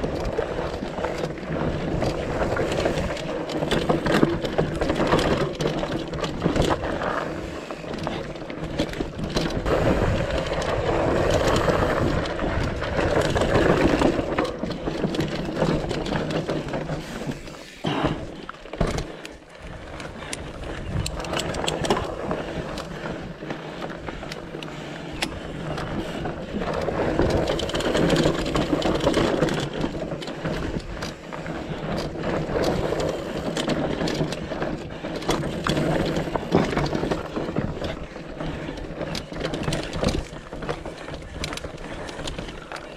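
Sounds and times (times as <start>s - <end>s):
bike rattling over stones: 0.0s - 42.9s
bike tyres rushing on dirt: 0.0s - 42.9s.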